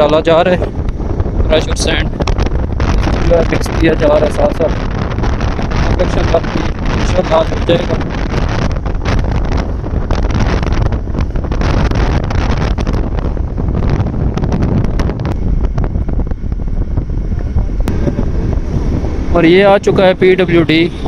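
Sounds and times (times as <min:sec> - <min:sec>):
moving vehicle rumble: 0:00.0 - 0:21.0
wind buffeting microphone: 0:00.0 - 0:21.0.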